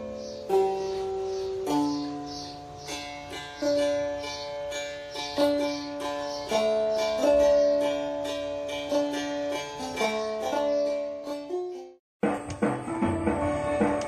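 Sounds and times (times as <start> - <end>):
plucked string instrument melody: 0.0 - 14.0.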